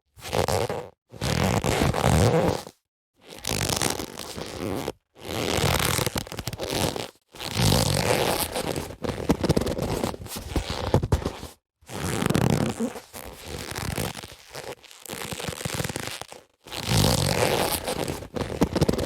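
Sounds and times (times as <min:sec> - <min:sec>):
leather gloves rubbing and creaking: 0:00.2 - 0:19.0.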